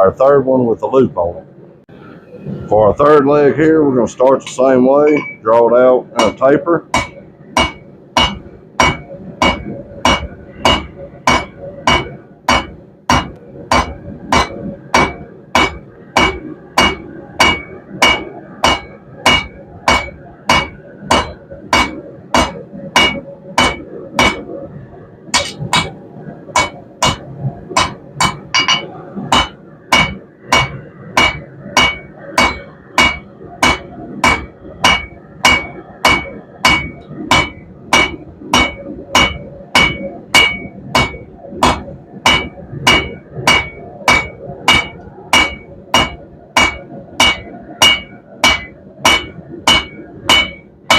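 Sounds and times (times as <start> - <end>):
hammer ringing on steel and anvil: 5.1 - 5.5, 6.2 - 24.4, 25.4 - 26.0, 26.6 - 27.2, 27.8 - 50.7.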